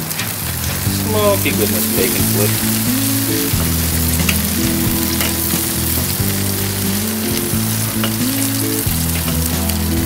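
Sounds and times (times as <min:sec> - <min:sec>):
background music with bass line: 0:00.0 - 0:10.0
bacon sizzling on a grill: 0:00.0 - 0:10.0
tongs ticking: 0:00.9 - 0:09.7.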